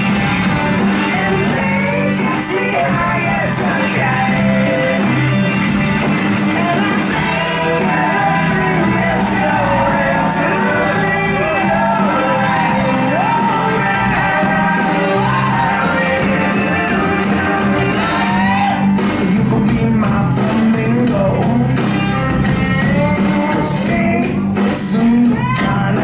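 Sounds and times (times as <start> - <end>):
rock and roll song with singer: 0.0 - 26.0.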